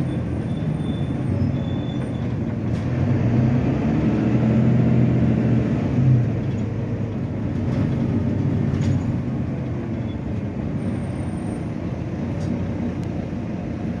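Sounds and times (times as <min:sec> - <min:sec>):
bus diesel engine droning: 0:00.0 - 0:14.0
traffic noise: 0:00.0 - 0:14.0.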